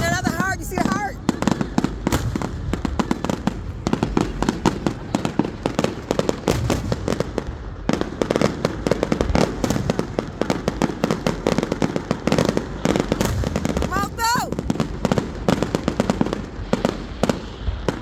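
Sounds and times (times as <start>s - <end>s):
fireworks crackling pops: 0.0s - 18.0s.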